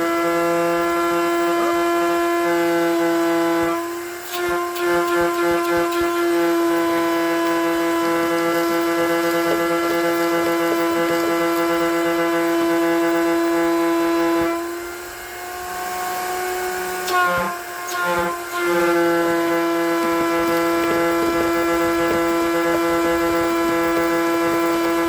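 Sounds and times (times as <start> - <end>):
shop vacuum motor whining: 0.0 - 25.0.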